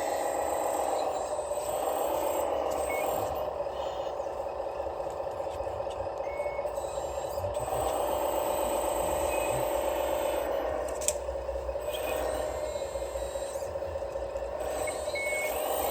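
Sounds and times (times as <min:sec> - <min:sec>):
electric motor and gearbox whining: 0:00.0 - 0:15.9.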